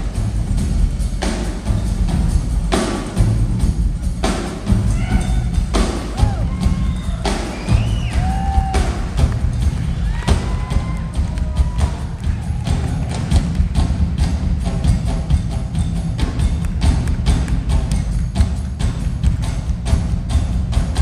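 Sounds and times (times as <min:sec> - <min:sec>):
drum kits playing: 0:00.0 - 0:21.0.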